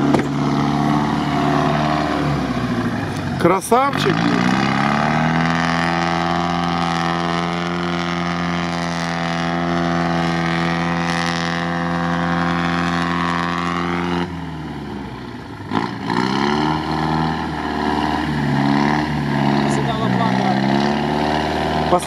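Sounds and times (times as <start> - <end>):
engine revving: 0.0 - 22.0
truck engine under load: 0.0 - 22.0.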